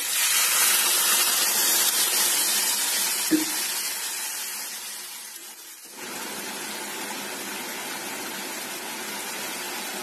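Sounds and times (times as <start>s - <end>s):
curry simmering hiss: 0.0s - 10.0s
water sizzling in hot pan: 0.0s - 10.0s.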